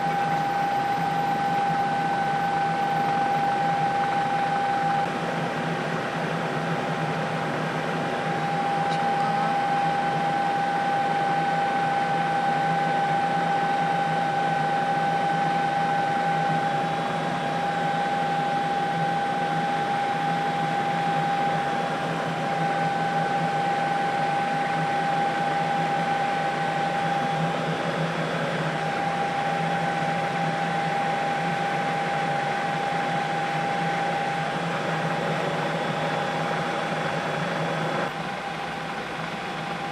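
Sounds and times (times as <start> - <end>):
helicopter engine and rotor drone: 0.0 - 39.9
high whine: 0.0 - 39.9.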